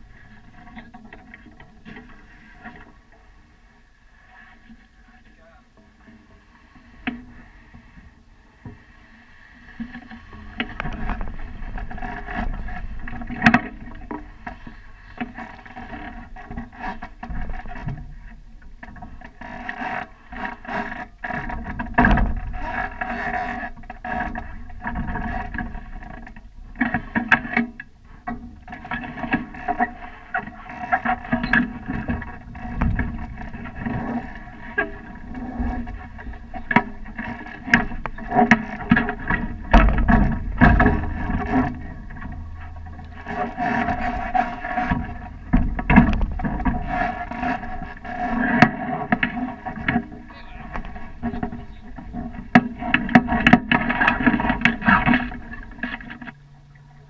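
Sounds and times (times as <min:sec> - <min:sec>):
water lapping against hulls: 0:00.0 - 0:57.0.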